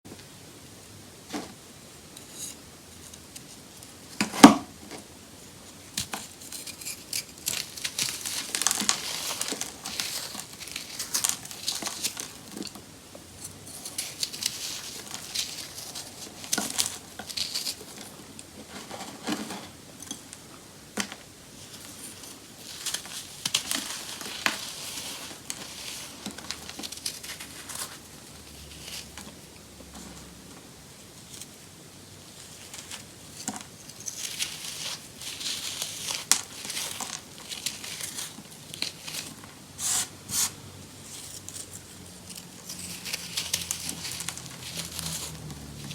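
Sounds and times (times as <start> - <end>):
baking soda crunching and crackling: 2.2 - 29.7, 31.0 - 45.9.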